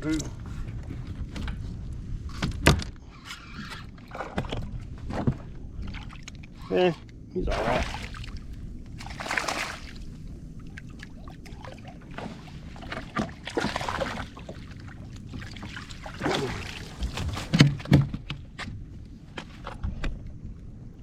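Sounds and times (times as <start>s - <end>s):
water splashing around kayak: 3.3s - 20.5s.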